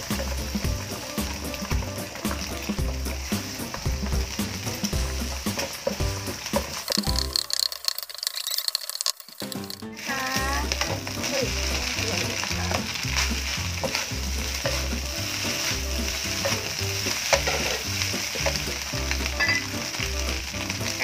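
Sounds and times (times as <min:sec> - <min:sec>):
background music with bass beat: 0:00.0 - 0:07.4, 0:10.2 - 0:21.0
rice and egg sizzling in wok: 0:00.0 - 0:21.0
wooden spatula scraping wok: 0:00.0 - 0:21.0.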